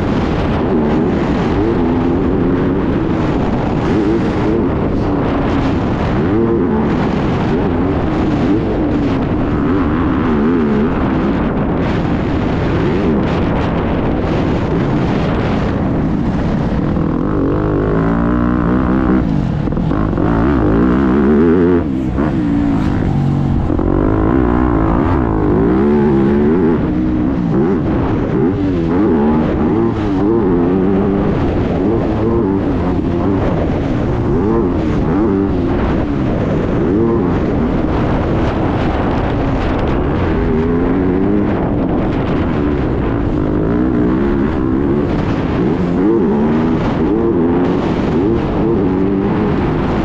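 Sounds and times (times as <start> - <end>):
motorbike engine revving: 0.0 - 50.0.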